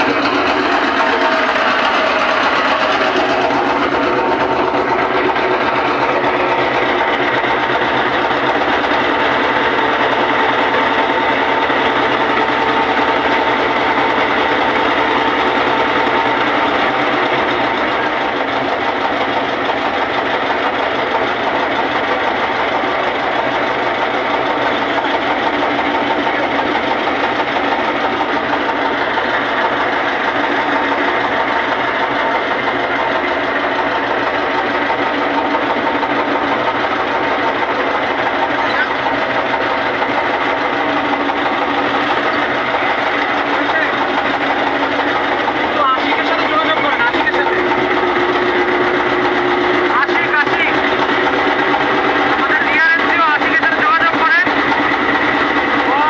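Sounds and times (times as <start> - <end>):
motor boat engine rattle: 0.0 - 56.0.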